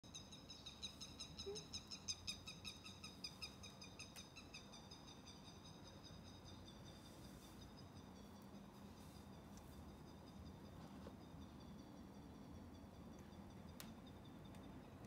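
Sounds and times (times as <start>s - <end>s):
small bird chirping rapidly: 0.0s - 15.0s.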